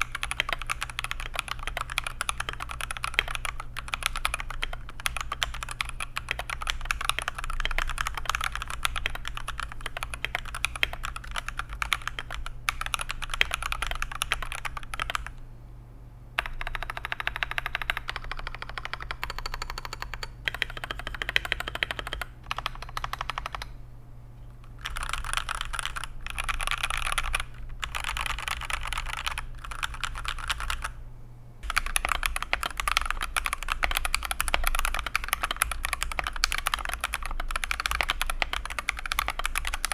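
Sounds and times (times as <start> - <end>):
fast mechanical keyboard typing: 0.0 - 15.4, 16.4 - 23.8, 24.7 - 31.0, 31.6 - 39.9.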